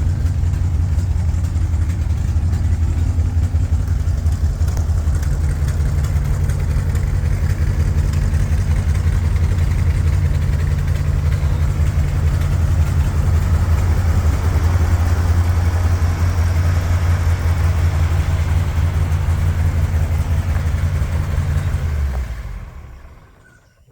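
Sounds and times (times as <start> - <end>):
truck engine idling: 0.0 - 23.9.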